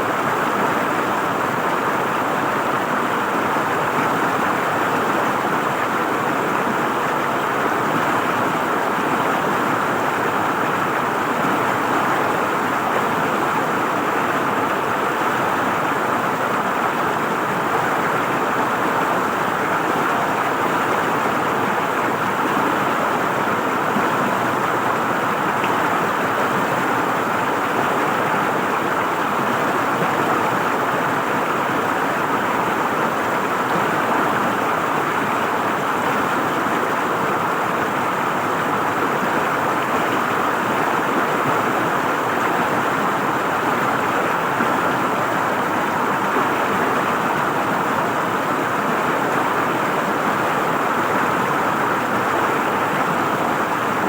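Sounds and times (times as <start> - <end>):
river water gurgling over rocks: 0.0 - 54.0.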